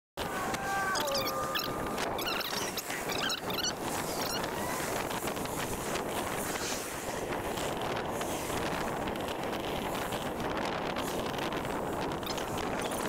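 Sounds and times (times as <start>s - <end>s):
wind buffeting microphone: 0.2s - 13.0s.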